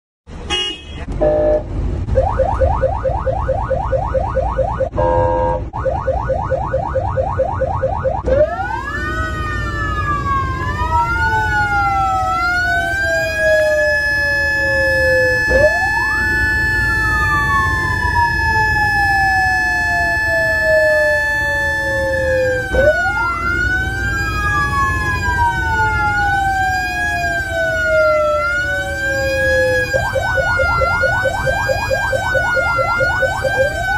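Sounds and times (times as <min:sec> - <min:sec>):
siren steady blast: 0:01.2 - 0:33.9
siren yelping and wailing: 0:02.1 - 0:33.9.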